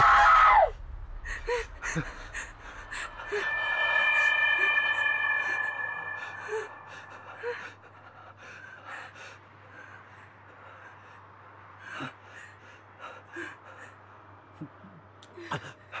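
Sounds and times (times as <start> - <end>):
low steady hum: 0.7 - 14.2.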